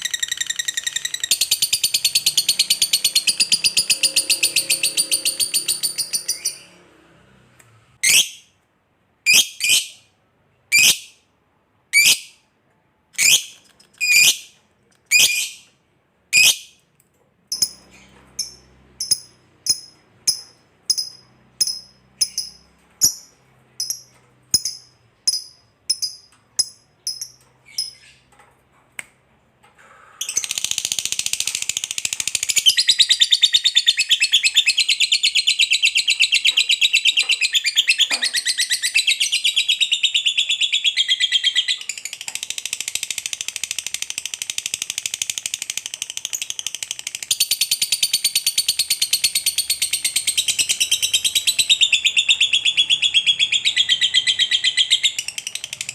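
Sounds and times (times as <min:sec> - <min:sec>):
bird chirping: 0:00.0 - 0:06.9, 0:09.2 - 0:11.2, 0:13.2 - 0:16.8, 0:17.5 - 0:28.5, 0:30.2 - 0:55.9.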